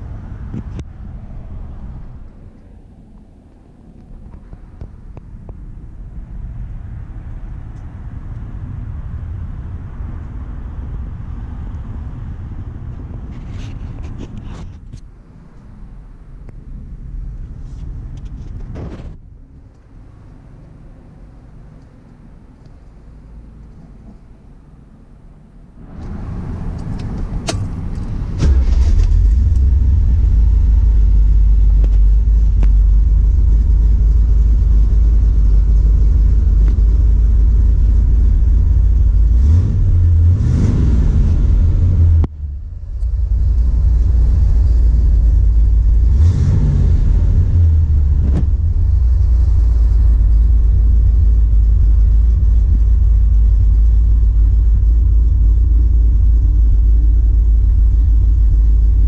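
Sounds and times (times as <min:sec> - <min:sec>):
car engine running and revving: 0:00.0 - 0:24.9, 0:25.7 - 0:59.0.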